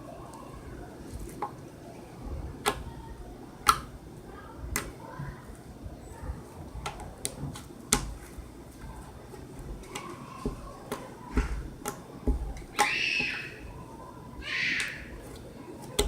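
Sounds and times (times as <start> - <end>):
longer noisy slime sound: 0.0 - 16.0.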